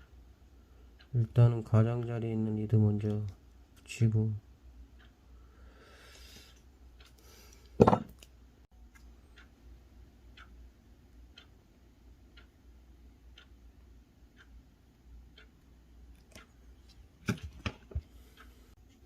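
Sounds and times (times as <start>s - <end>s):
faint regular ticking: 0.0s - 16.9s.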